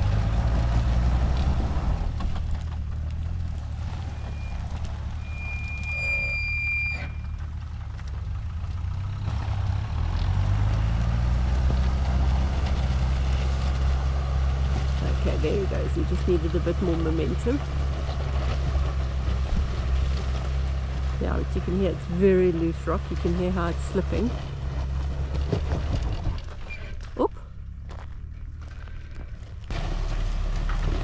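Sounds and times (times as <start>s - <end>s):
engine running under load: 0.0s - 31.0s.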